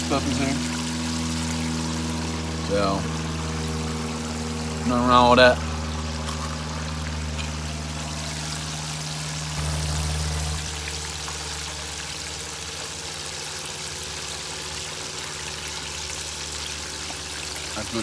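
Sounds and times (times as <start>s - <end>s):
hot oil sizzling: 0.0s - 18.0s
low hum: 0.0s - 18.0s.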